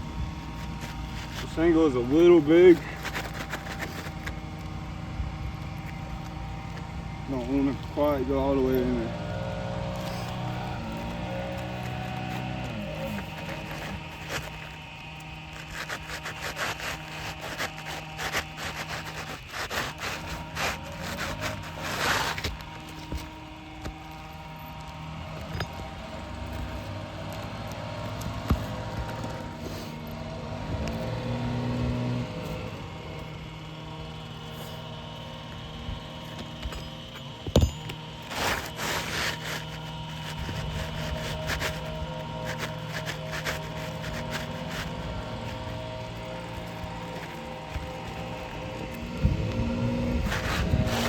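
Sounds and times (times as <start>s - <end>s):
asphalt shingle scraping: 0.0s - 51.0s
engine running steadily: 0.0s - 51.0s.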